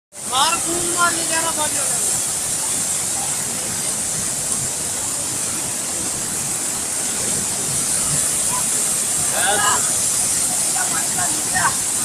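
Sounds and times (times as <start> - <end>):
floodwater rushing: 0.2 - 12.0.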